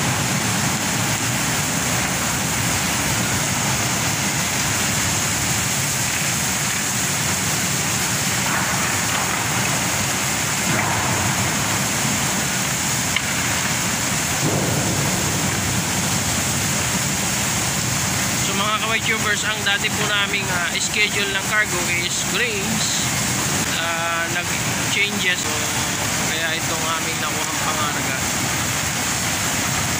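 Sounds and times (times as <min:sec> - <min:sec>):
coal pouring into steel hold: 0:00.0 - 0:25.0.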